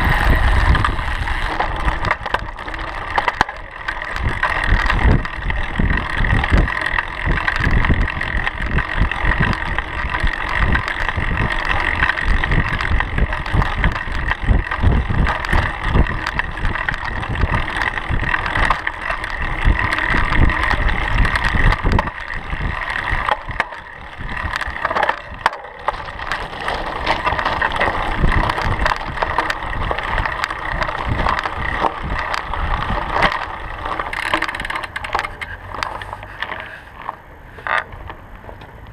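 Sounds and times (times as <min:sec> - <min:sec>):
wind buffeting microphone: 0:00.0 - 0:35.8
bike tyre rumble and rattling: 0:00.0 - 0:38.9.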